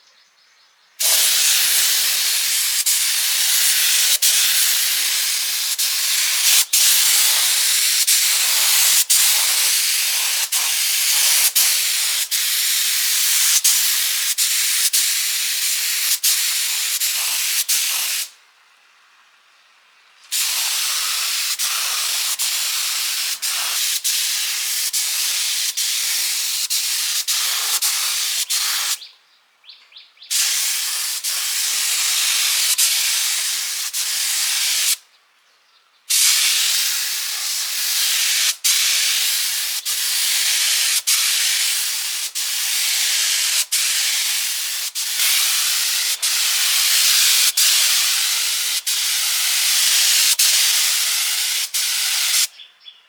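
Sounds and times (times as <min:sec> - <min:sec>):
high-pitched spray hiss: 0:01.0 - 0:18.4, 0:20.3 - 0:29.0, 0:30.3 - 0:35.0, 0:36.1 - 0:52.5.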